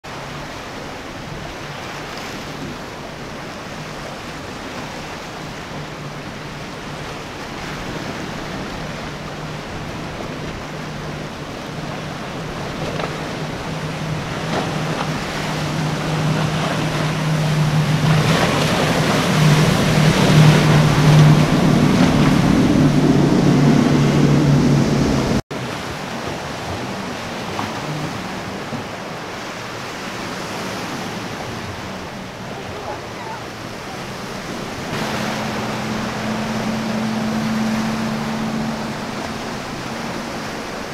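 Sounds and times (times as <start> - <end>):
powerboat engines humming: 0.0 - 40.9
waves and spray rushing: 0.0 - 40.9.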